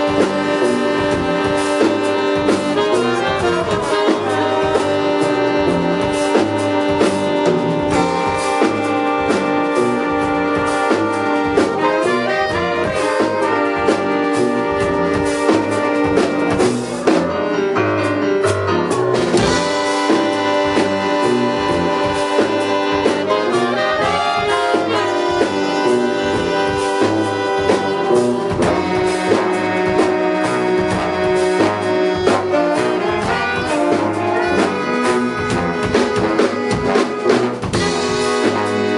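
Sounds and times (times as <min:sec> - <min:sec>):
jazz big band playing: 0:00.0 - 0:38.9.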